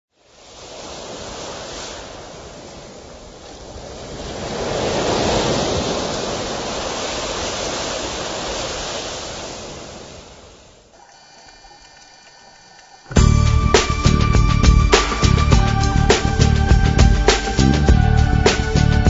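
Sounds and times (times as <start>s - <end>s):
ocean waves washing in: 0.1s - 19.0s.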